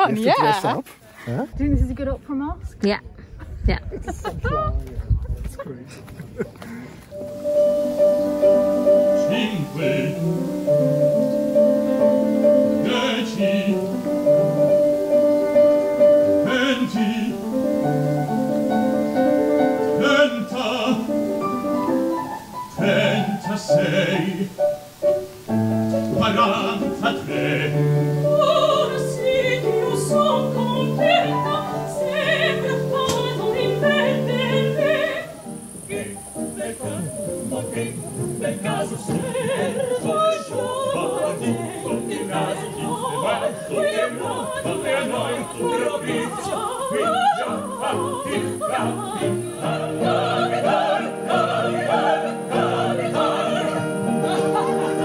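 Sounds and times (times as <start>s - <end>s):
grand piano chords: 7.1s - 55.0s
opera singers singing: 7.3s - 55.0s.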